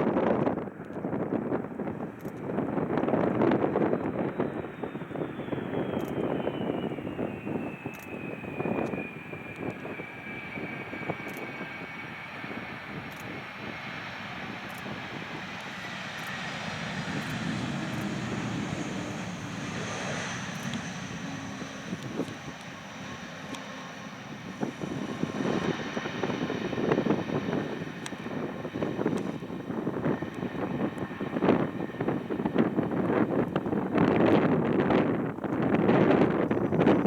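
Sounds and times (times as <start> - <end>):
jet rumble: 0.0 - 37.0
wind gusts on microphone: 0.0 - 37.0
jet engines whining: 0.1 - 37.0.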